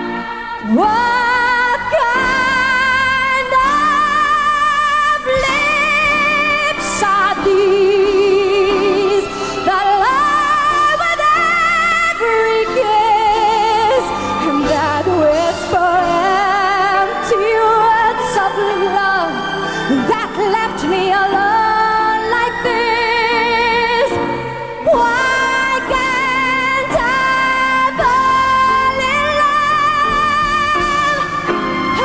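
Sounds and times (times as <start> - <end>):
woman singing a ballad: 0.0 - 32.0.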